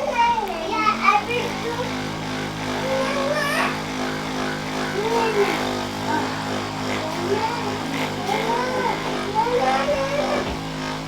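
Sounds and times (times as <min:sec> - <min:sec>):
electric massager humming: 0:00.0 - 0:11.0
faint voices: 0:00.0 - 0:11.0.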